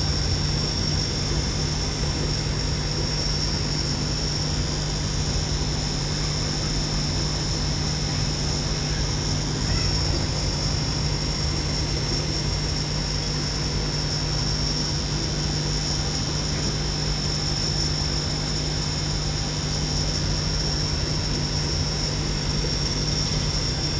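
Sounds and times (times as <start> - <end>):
high steady whine: 0.0 - 23.9
steady mechanical hum: 0.0 - 23.9.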